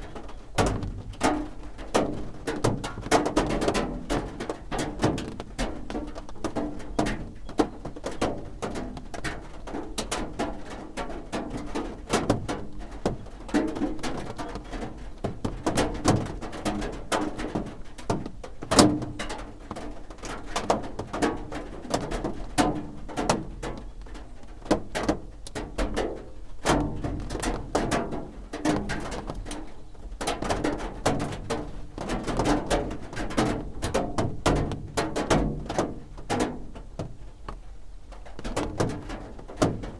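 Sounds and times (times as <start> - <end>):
rain drumming on a roof: 0.0 - 39.9.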